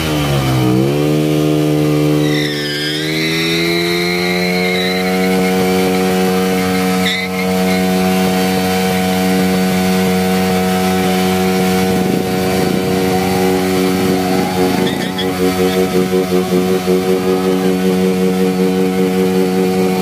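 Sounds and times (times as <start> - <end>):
motorcycle engine revving high: 0.0 - 20.0.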